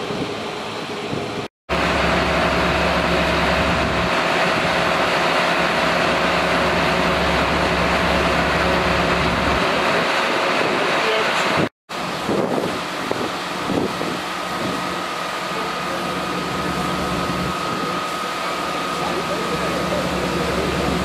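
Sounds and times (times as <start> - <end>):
fire engine running pump: 0.0 - 21.0.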